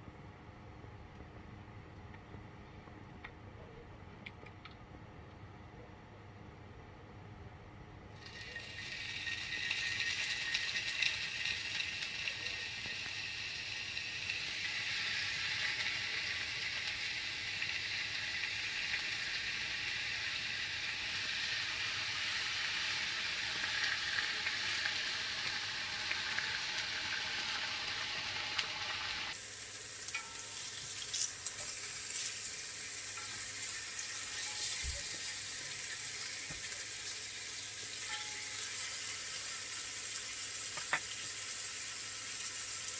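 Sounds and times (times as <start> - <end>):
food sizzling in a pan: 8.1 - 42.9.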